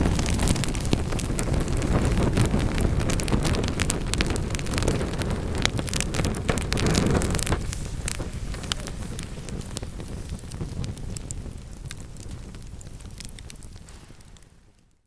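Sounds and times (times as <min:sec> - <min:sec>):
low roar of flames: 0:00.0 - 0:14.9
wood fire crackling and popping: 0:00.0 - 0:15.0.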